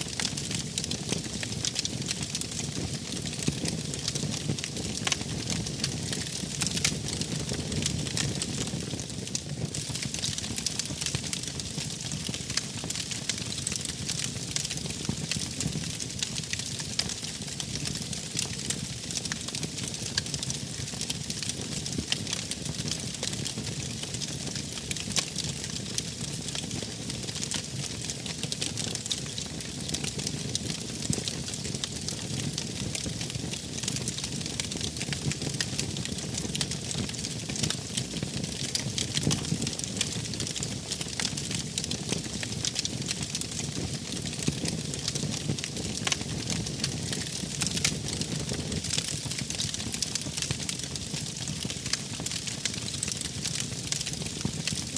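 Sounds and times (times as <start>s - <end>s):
fire crackles and pops: 0.0s - 54.9s
wood fire hissing and rumbling: 0.0s - 54.9s.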